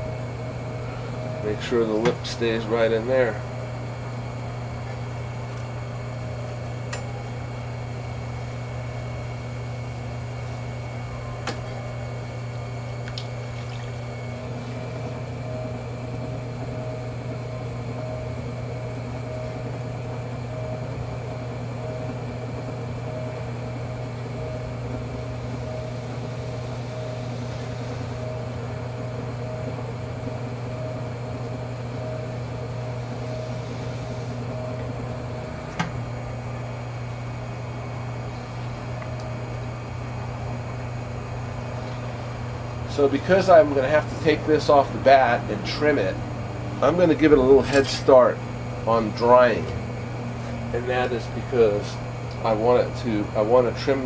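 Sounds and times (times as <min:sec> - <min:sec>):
high pulsing whine: 0:00.0 - 0:54.0
potter's wheel motor hum: 0:00.0 - 0:54.0.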